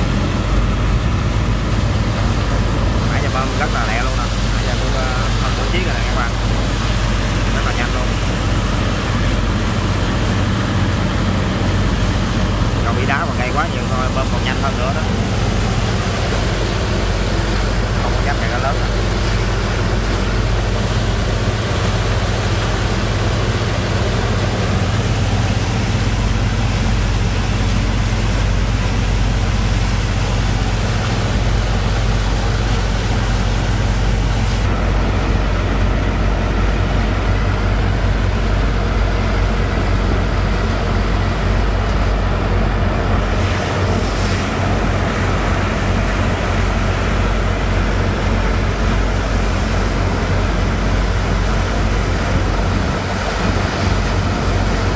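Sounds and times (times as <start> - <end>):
dense rushing noise: 0.0 - 54.9
pump engine humming: 0.0 - 54.9.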